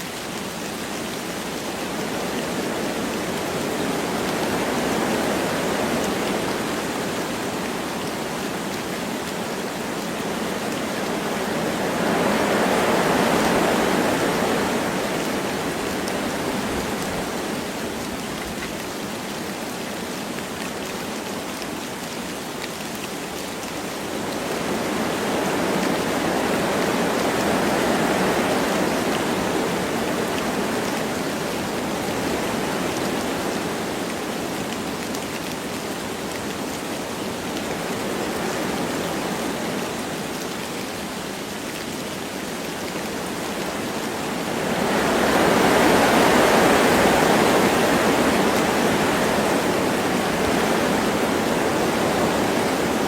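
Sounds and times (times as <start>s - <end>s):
light rain falling: 0.0s - 53.0s
wind rushing through trees: 0.0s - 53.0s.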